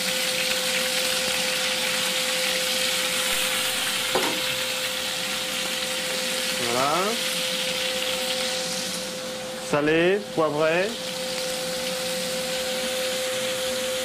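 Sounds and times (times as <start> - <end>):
scallops sizzling in a pan: 0.0 - 14.0.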